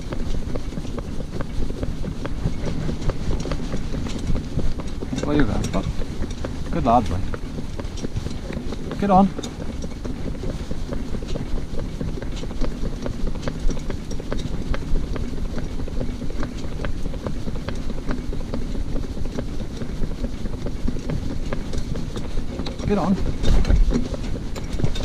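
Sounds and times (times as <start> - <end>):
cart wheels rolling on road: 0.0 - 25.0
hooves clip-clopping on tarmac: 0.0 - 25.0.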